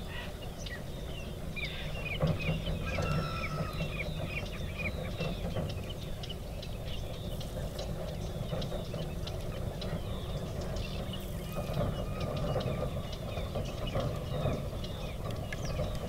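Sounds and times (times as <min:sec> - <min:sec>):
birds chirping: 0:00.0 - 0:16.0
low steady rumble: 0:00.0 - 0:16.0.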